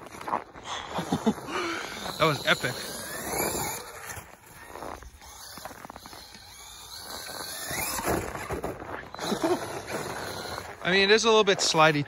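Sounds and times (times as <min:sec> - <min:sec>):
tyres scrabbling on snow: 0:00.0 - 0:12.0
electric motor whining: 0:01.2 - 0:11.2.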